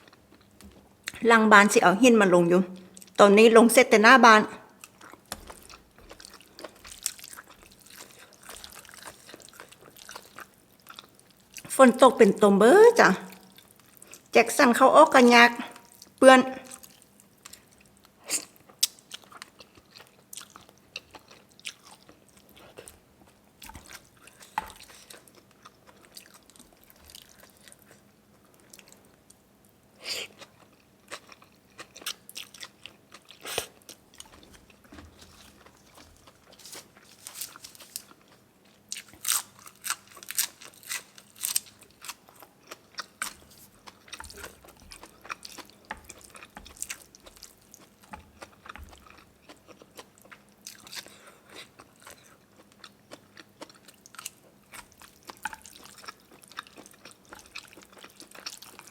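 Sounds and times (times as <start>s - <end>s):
person chewing food: 0.0s - 1.2s, 4.7s - 11.8s, 13.3s - 14.3s, 15.7s - 58.9s.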